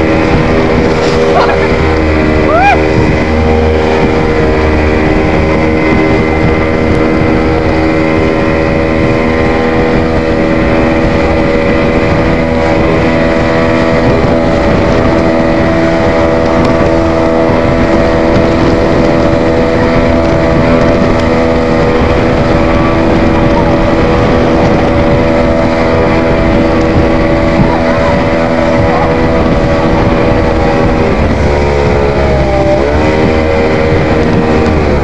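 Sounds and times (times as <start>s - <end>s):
rushing water: 0.0s - 35.0s
speedboat motor running: 0.0s - 35.0s
wind: 0.0s - 35.0s.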